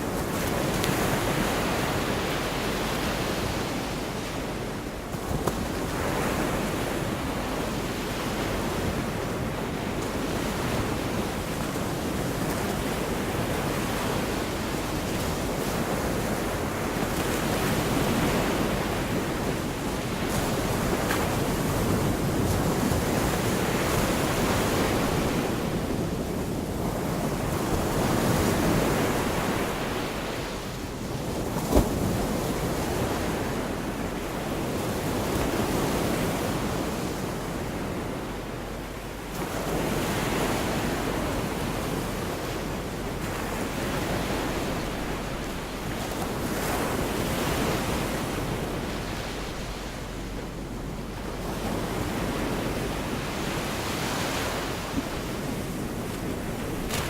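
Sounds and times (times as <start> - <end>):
surf washing onto beach: 0.0 - 57.0.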